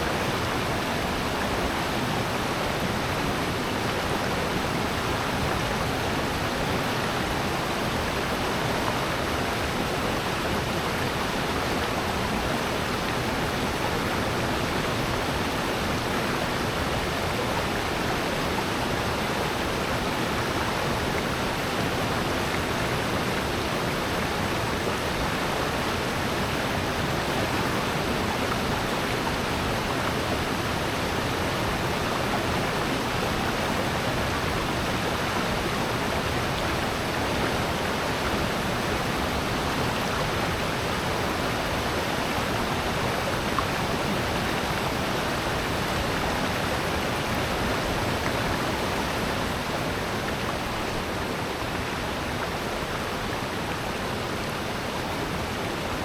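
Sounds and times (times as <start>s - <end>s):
stream and waterfall rushing: 0.0s - 56.0s.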